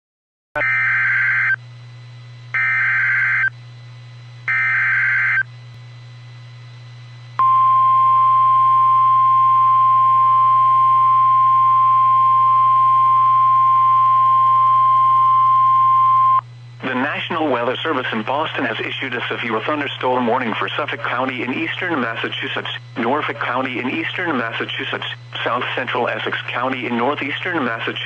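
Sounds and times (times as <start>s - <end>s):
low steady hum: 0.6s - 28.0s.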